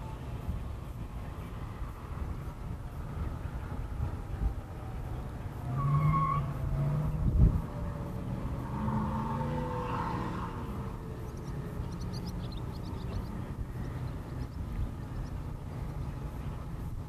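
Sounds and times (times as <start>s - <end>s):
steady low rumble: 0.0s - 5.7s, 6.4s - 9.2s, 10.4s - 17.0s
car passing: 0.0s - 17.0s.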